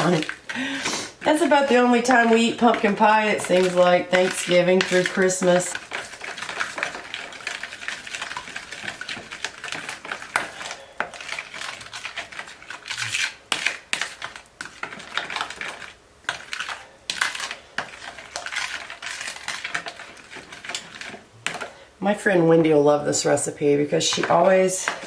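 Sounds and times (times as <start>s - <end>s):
utensil scraping bowl: 0.0s - 21.8s, 23.9s - 25.0s
utensil stirring thick batter: 0.0s - 25.0s.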